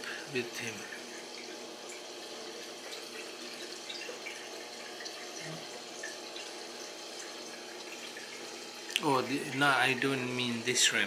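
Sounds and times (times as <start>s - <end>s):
aquarium water trickling: 0.0s - 11.0s.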